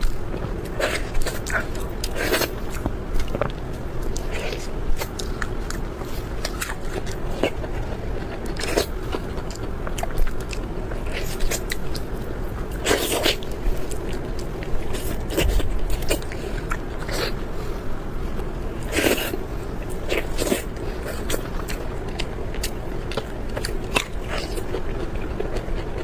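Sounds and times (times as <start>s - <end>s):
person biting and chewing food: 0.1s - 12.1s, 12.7s - 17.6s, 18.8s - 26.0s.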